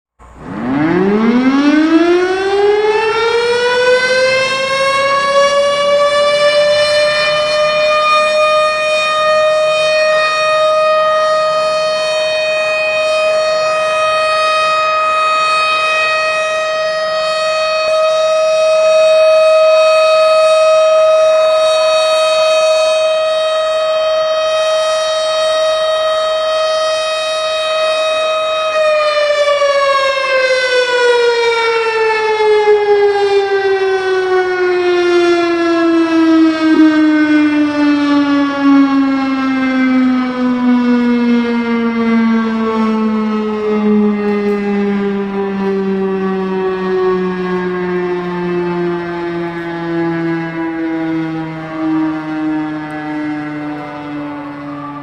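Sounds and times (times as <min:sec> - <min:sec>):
warning siren rising and falling: 0:00.2 - 0:55.0.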